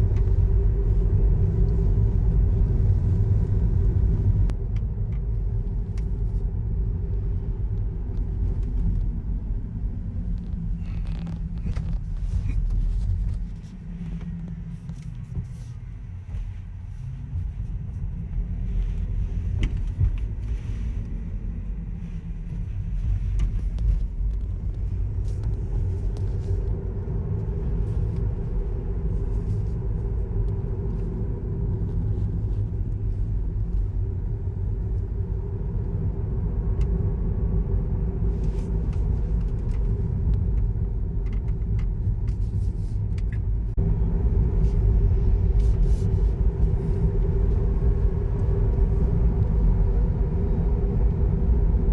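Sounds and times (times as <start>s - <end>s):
car interior road rumble: 0.0s - 51.9s.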